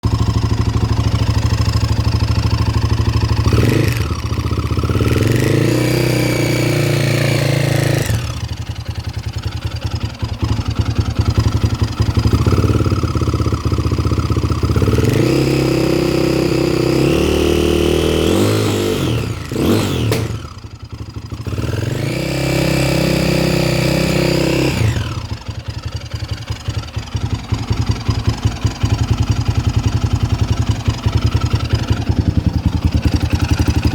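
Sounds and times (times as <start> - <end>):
dirt bike engine idling and revving: 0.0 - 33.9.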